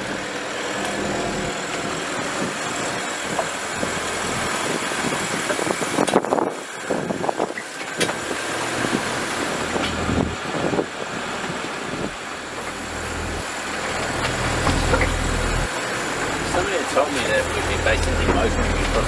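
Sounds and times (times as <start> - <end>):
boat engine low rumble: 0.0 - 19.0
water noise: 0.0 - 19.0
wind: 0.0 - 19.0.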